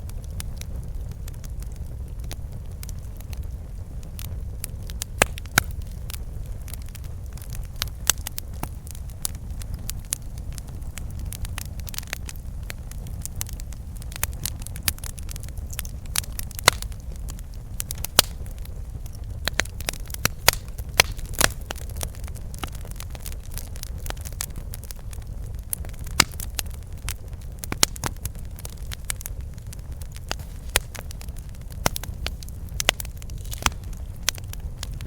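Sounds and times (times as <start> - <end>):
low fire rumble: 0.0 - 35.0
wood crackling and popping: 0.0 - 35.0.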